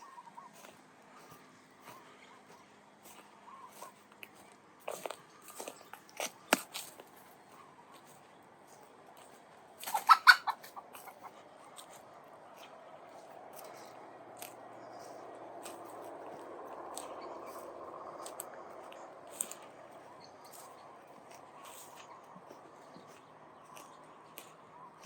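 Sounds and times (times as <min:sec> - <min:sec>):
footsteps crunching on sand: 0:00.0 - 0:25.0.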